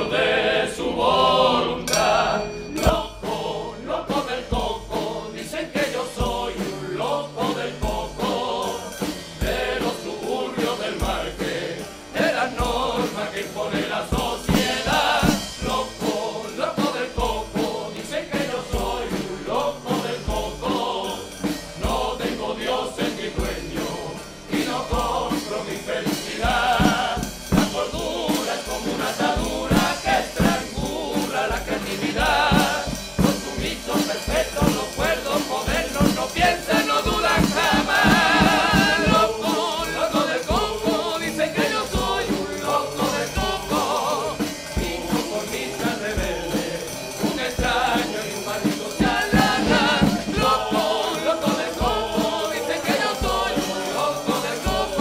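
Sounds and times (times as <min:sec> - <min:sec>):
men's choir singing: 0:00.0 - 0:55.0
bass drum beating: 0:02.8 - 0:55.0.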